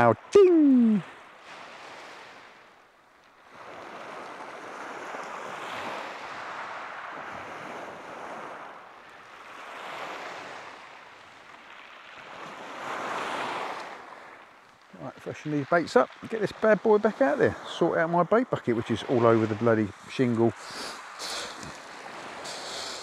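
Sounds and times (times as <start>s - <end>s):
waves breaking on shingle beach: 0.0s - 23.0s.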